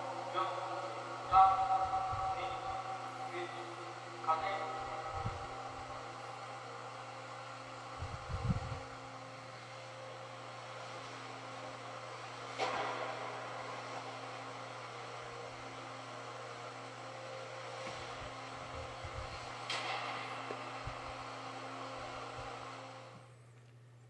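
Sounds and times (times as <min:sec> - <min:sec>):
mechanical hum and hiss: 0:00.0 - 0:24.0.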